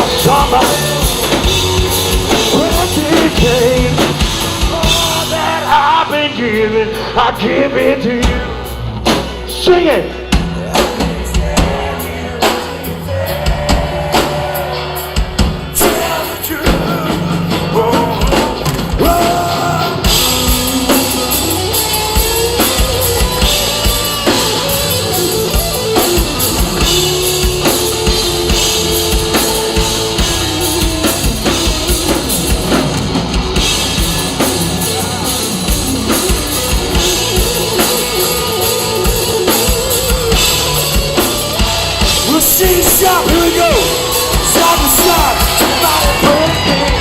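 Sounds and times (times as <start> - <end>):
drum kit beat: 0.0 - 47.0
guitar sustained notes: 0.0 - 47.0.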